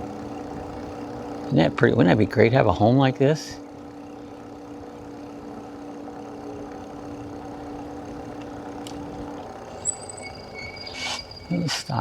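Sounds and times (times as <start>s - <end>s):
electric bike motor humming: 0.0s - 12.0s.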